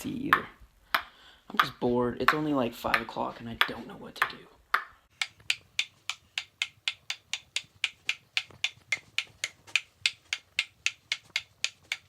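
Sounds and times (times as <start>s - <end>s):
small ball bouncing: 0.2s - 12.0s.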